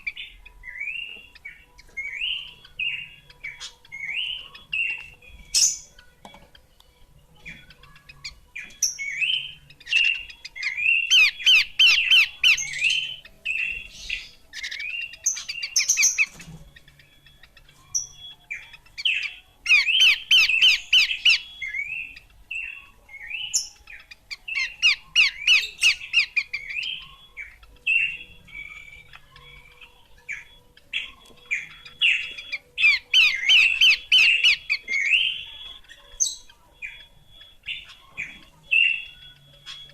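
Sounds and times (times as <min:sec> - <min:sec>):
bird rapid chattering: 0:07.4 - 0:39.9.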